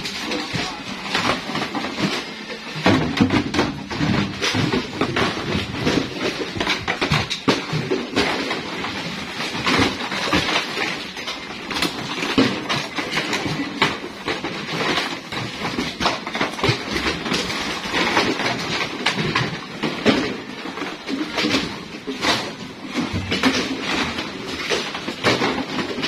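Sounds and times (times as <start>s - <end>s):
plastic crates clattering: 0.0s - 26.0s.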